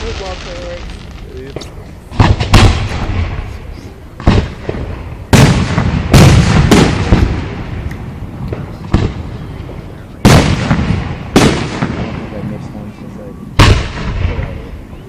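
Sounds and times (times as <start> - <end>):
firework shells booming: 0.0 - 14.9
firework crackles: 0.0 - 15.0.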